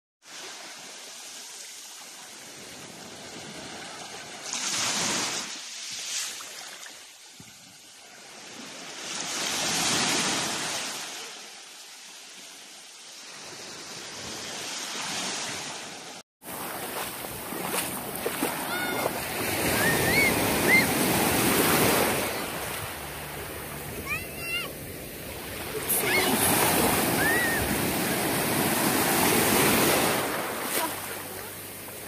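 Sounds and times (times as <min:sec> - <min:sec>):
waves washing on sandy beach: 0:00.2 - 0:32.0.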